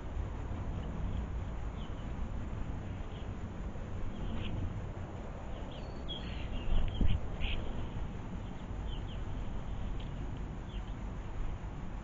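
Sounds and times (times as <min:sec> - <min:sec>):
steady low rumble: 0:00.0 - 0:12.0
small birds chirping: 0:00.7 - 0:11.5.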